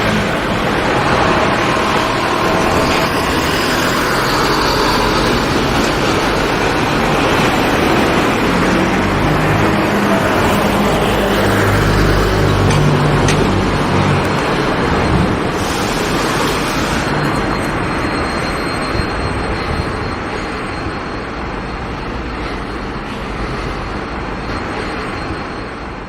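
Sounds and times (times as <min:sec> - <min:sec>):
low engine drone: 0:00.0 - 0:26.0
train wagons rumbling past: 0:00.0 - 0:26.0.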